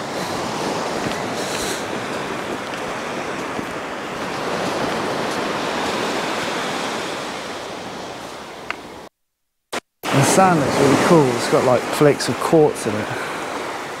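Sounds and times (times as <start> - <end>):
small waves washing onto beach: 0.0 - 9.1, 10.0 - 14.0
wind: 0.0 - 9.1, 9.7 - 14.0.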